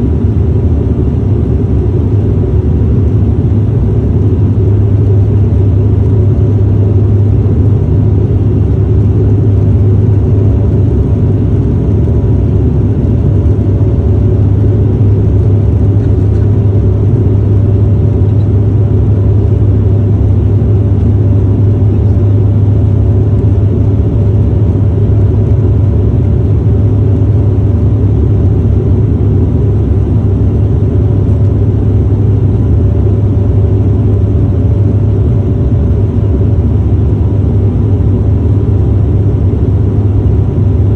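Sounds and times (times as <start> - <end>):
airliner cabin drone: 0.0 - 40.9
faint steady hum tones: 0.0 - 40.9.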